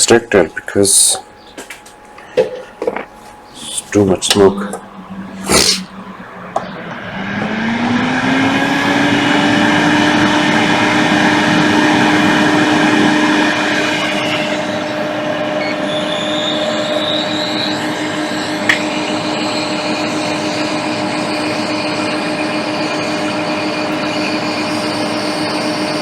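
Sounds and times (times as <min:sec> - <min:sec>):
extractor fan humming and rushing: 0:00.9 - 0:26.0.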